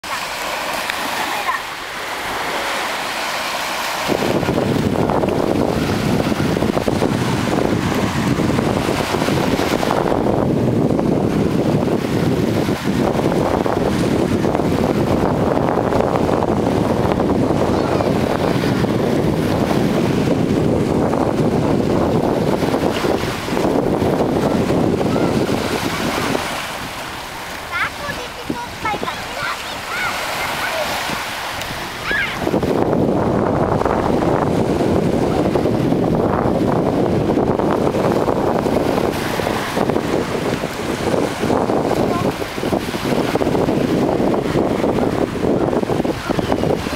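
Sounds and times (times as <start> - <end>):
small waves lapping: 0.0 - 46.9
wind buffeting microphone: 0.0 - 46.9.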